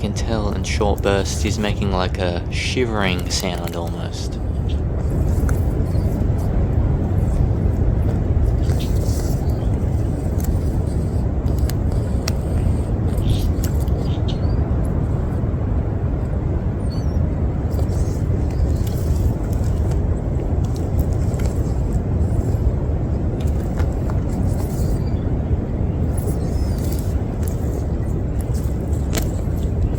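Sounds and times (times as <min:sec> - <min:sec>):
low rumble of field audio: 0:00.0 - 0:29.9.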